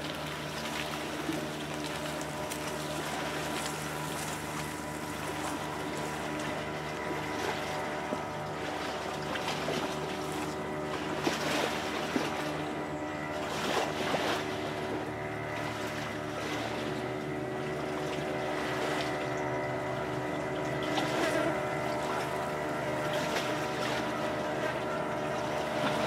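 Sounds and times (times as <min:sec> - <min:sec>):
steady motor hum: 0:00.0 - 0:26.0.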